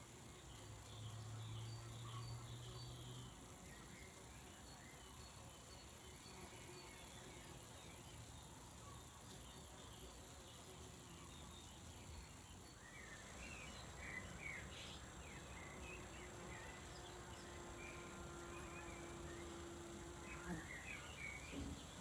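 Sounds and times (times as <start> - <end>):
faint garden ambience: 0.0 - 22.0.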